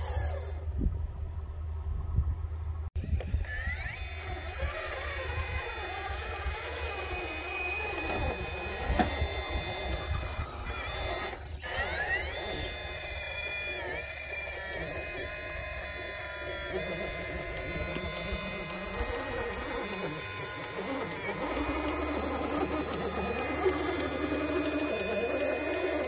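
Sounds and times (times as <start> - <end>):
electric motor whining: 0.0 - 0.6, 3.0 - 26.0.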